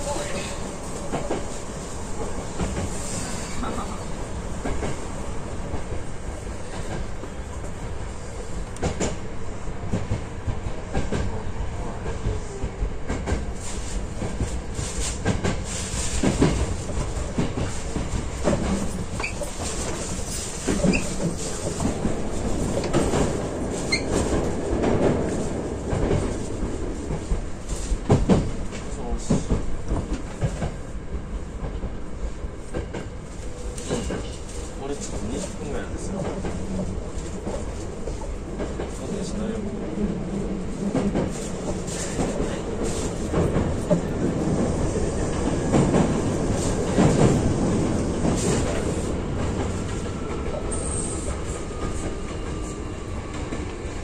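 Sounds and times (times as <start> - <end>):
train wheel rumble: 0.0 - 54.0.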